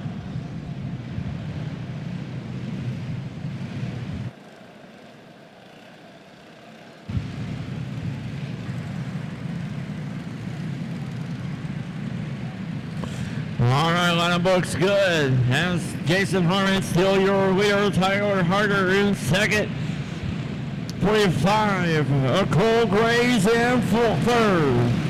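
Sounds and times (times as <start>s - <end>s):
kart engines running: 0.0s - 25.0s.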